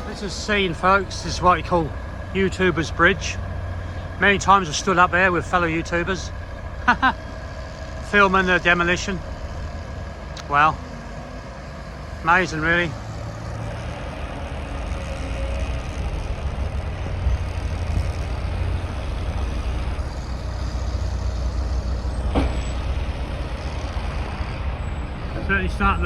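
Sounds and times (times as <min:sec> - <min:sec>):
heavy diesel machinery rumbling: 0:00.0 - 0:26.0.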